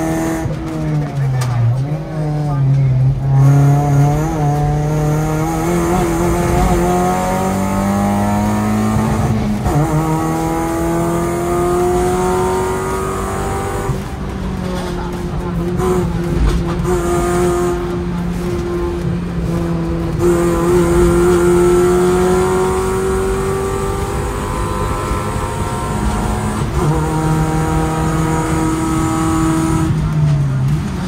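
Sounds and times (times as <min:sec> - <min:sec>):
car engine running under load: 0:00.0 - 0:31.0.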